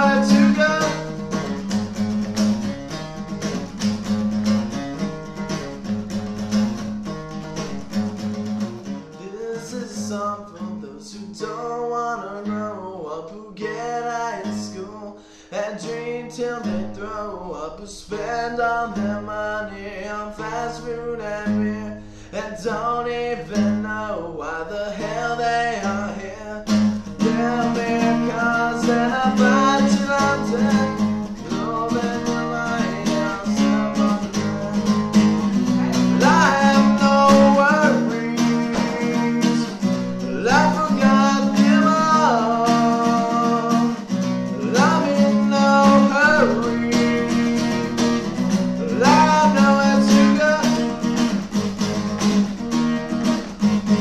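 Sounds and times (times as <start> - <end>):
sliding guitar lead line: 0.0 - 54.0
strummed acoustic guitar: 0.0 - 54.0.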